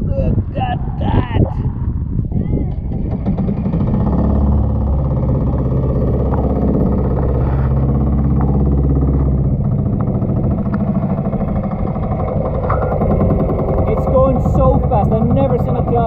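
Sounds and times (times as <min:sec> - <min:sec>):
boat engine running: 0:02.0 - 0:16.0.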